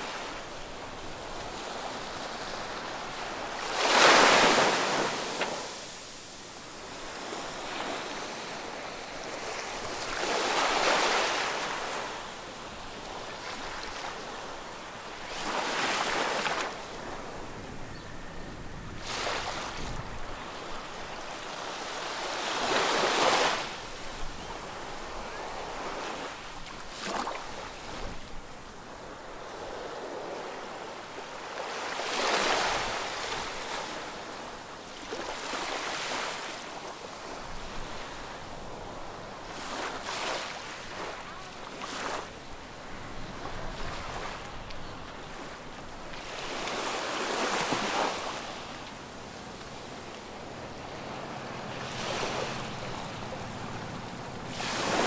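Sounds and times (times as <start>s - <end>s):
small sea waves breaking: 0.0s - 12.2s, 12.9s - 17.5s, 19.0s - 28.3s, 29.3s - 55.0s.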